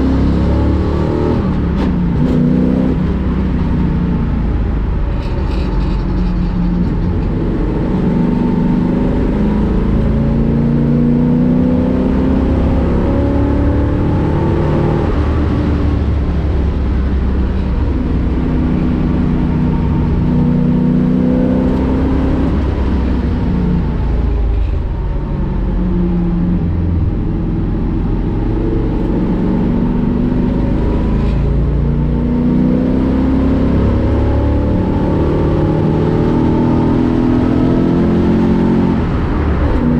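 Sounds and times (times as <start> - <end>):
race car engine revving: 5.0 - 24.6, 26.1 - 39.9.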